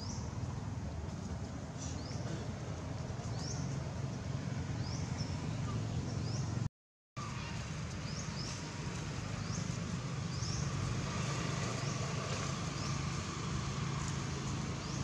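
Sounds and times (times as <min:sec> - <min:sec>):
low hum of distant traffic: 0:00.0 - 0:15.0.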